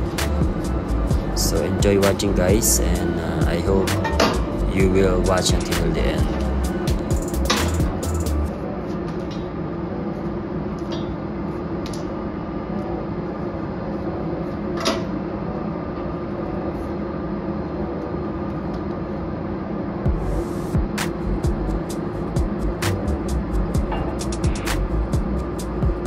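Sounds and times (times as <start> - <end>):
machinery hum and rumble: 0.0 - 26.0.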